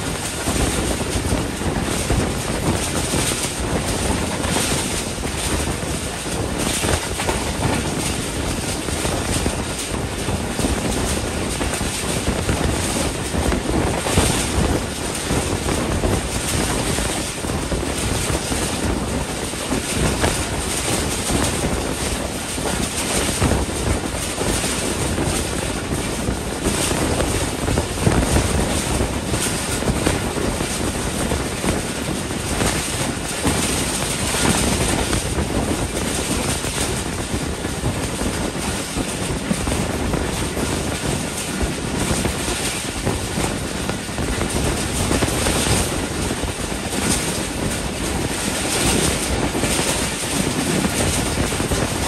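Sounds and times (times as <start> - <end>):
train coach running at speed: 0.0 - 52.0
wind rushing over microphone: 0.0 - 52.0.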